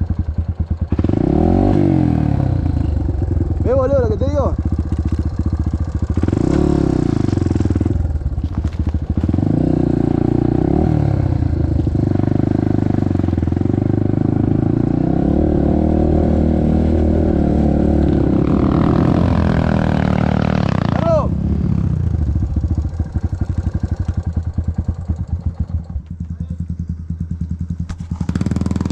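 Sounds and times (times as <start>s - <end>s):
trail bike engine running: 0.0s - 28.9s.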